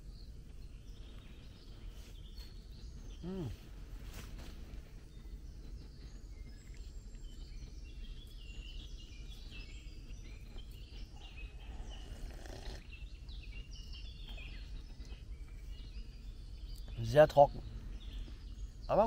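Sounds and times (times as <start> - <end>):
birds chirping and trilling: 0.0 - 19.0
low background rumble: 0.0 - 19.0.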